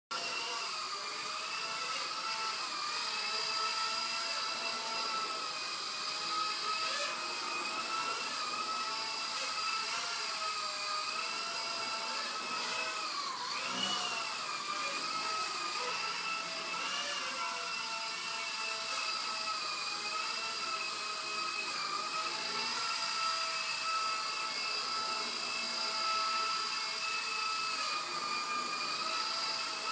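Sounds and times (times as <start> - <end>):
electric motor and rotor whine: 0.1 - 29.9.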